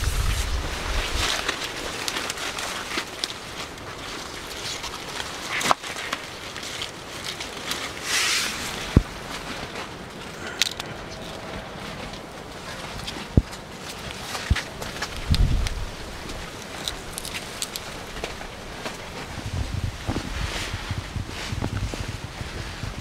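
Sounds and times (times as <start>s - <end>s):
dry leaves rustling and crackling: 0.0s - 23.0s.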